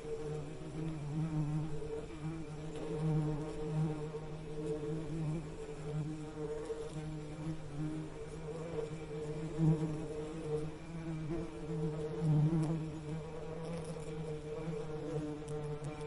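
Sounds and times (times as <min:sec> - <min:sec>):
bee buzzing: 0:00.0 - 0:16.0.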